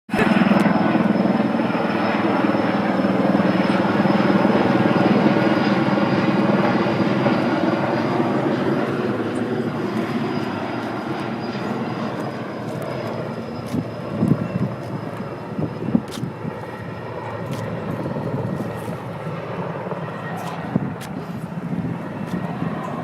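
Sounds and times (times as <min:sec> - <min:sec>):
helicopter rotor and engine: 0:00.1 - 0:23.0
high turbine whine: 0:00.1 - 0:23.0.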